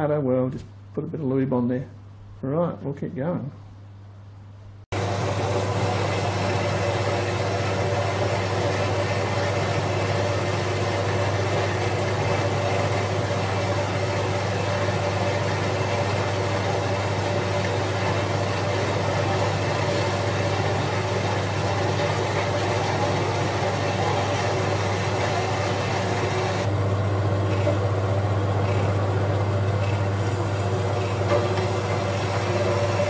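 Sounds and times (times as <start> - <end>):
milling machine running: 4.9 - 33.0.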